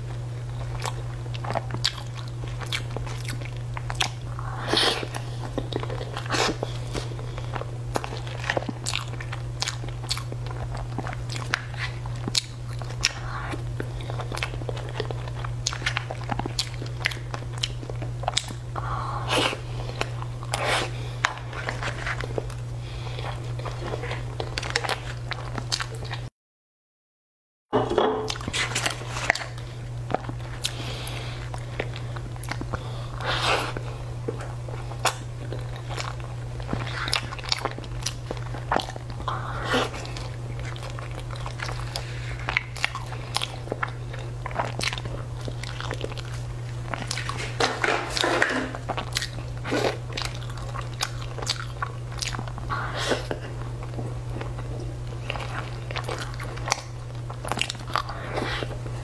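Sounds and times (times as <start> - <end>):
crunching fried food: 0.0 - 26.3, 28.3 - 59.0
steady low hum: 0.0 - 26.3, 27.8 - 59.0.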